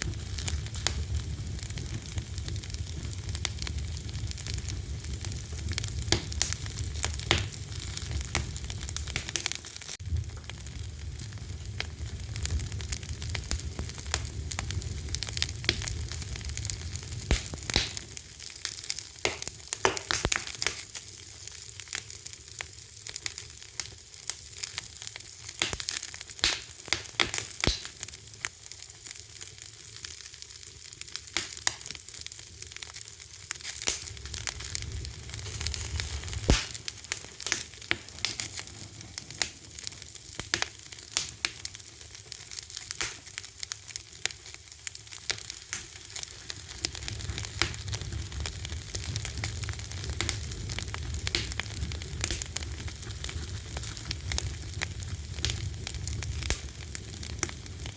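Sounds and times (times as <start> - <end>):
fire crackling: 0.0 - 57.9.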